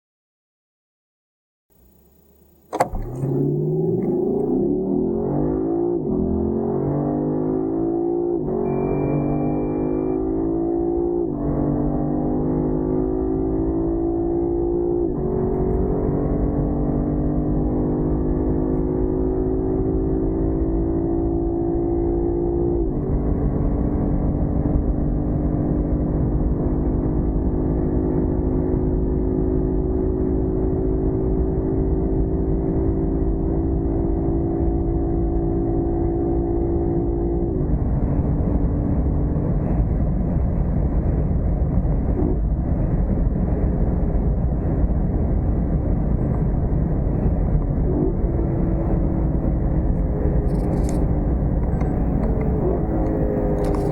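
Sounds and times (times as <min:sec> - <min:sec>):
car engine accelerating hard: 0:01.8 - 0:53.9
wind and road noise: 0:01.8 - 0:53.9.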